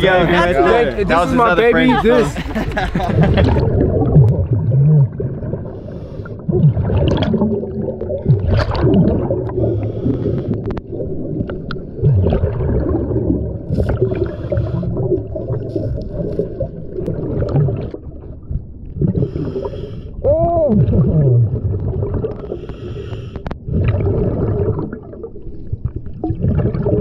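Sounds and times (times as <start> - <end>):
water against camera: 2.6 - 27.0
underwater bubbles gurgling: 3.0 - 27.0.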